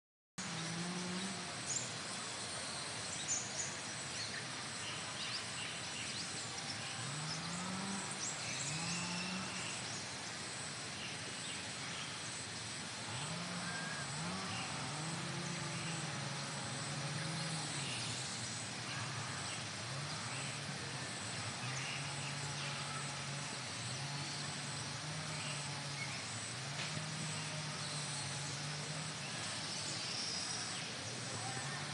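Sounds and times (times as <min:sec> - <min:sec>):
distant vehicle engine: 0:00.4 - 0:02.1, 0:05.8 - 0:31.9
insects and birds chirping: 0:00.4 - 0:31.9
steady outdoor hiss: 0:00.4 - 0:31.9.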